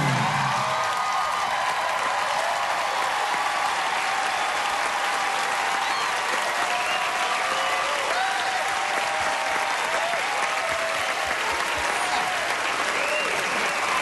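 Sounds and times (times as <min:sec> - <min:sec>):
audience clapping: 0:00.0 - 0:14.0
cheers and whoops: 0:00.0 - 0:14.0.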